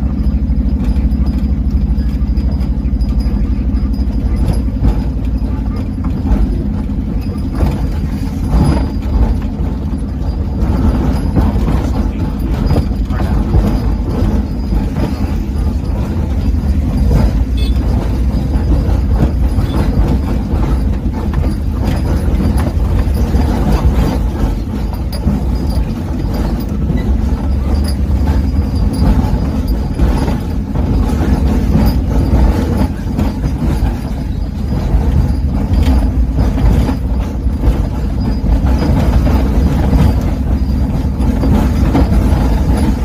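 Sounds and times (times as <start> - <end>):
engine and tyre rumble: 0.0 - 43.0
knocks and rattles: 0.0 - 43.0.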